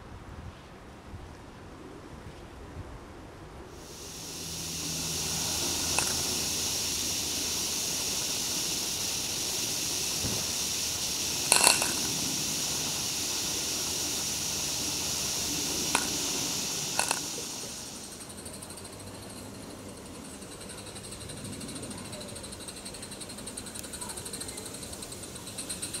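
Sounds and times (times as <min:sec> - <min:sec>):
steam locomotive hissing: 0:03.8 - 0:26.0.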